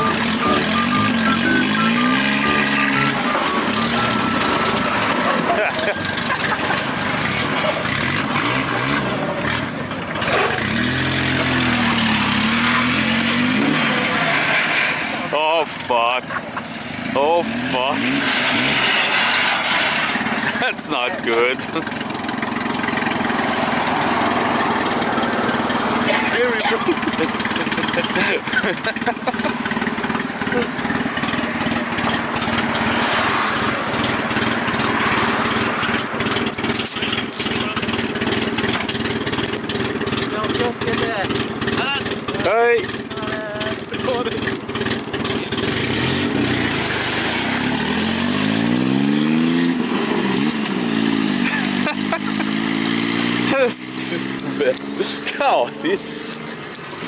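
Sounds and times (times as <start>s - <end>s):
car engine running: 0.0s - 57.0s
traffic din: 0.0s - 57.0s.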